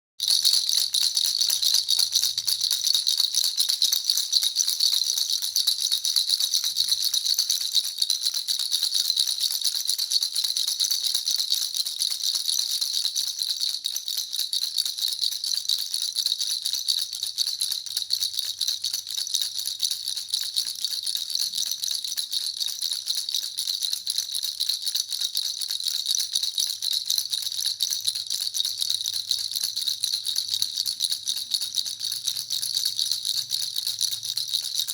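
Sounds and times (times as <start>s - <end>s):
baby rattle shaking: 0.2s - 34.9s.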